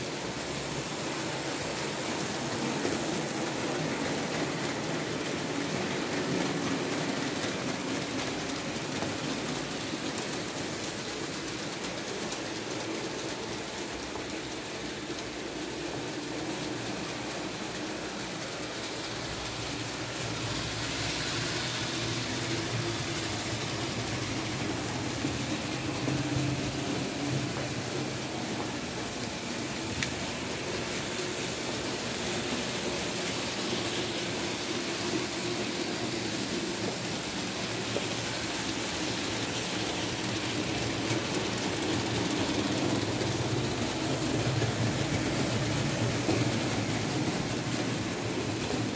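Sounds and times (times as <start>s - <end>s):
model train whirring on rails: 0.0s - 48.9s.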